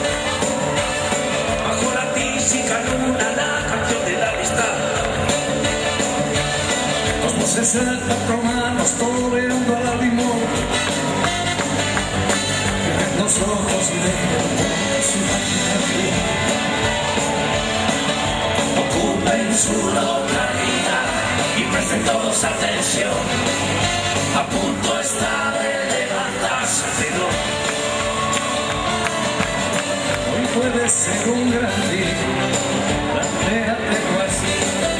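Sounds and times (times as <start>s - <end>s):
live band playing up-tempo song: 0.0s - 34.9s.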